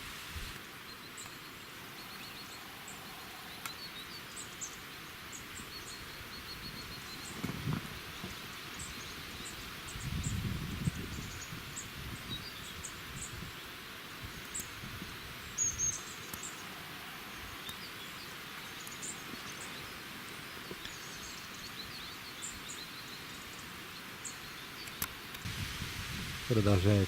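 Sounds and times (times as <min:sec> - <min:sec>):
steady outdoor hiss: 0:00.0 - 0:27.0
small birds chirping: 0:00.6 - 0:25.5.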